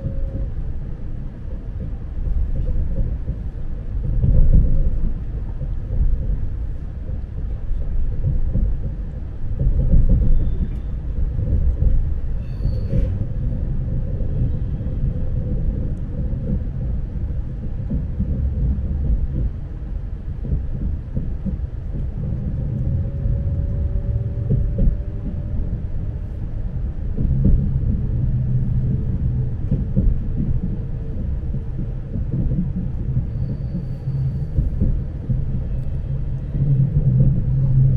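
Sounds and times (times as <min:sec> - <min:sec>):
train wheels rumbling on track: 0:00.0 - 0:37.9.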